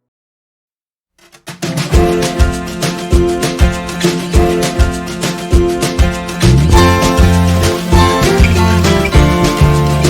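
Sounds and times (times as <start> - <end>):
band playing background music: 1.6 - 10.0.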